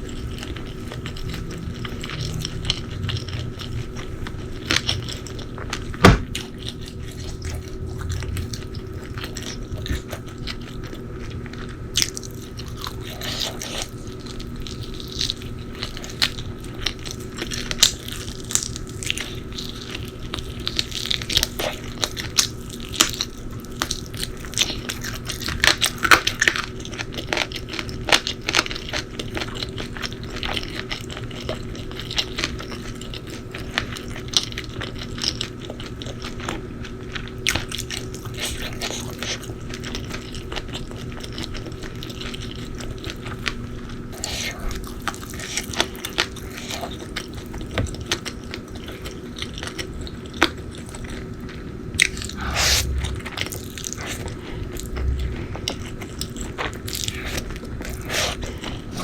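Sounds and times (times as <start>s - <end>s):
crunchy eating and chewing: 0.0s - 59.0s.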